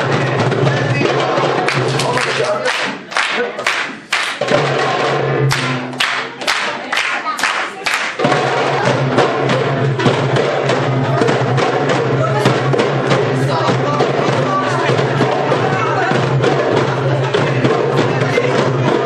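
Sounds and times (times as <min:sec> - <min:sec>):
hand drums playing: 0:00.0 - 0:19.0.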